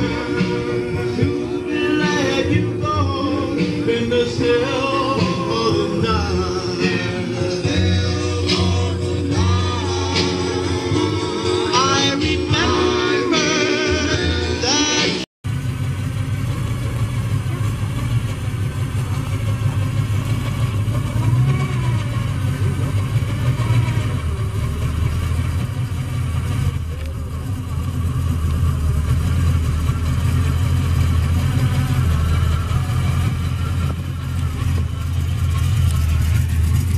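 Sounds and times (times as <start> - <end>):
hot rod engine rumbling: 0.0 - 36.9.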